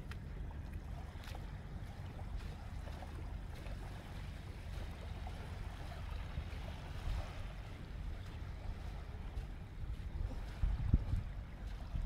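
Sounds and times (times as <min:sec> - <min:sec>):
small waves on sandy shore: 0:00.0 - 0:12.0
wind buffeting microphone: 0:01.8 - 0:12.0.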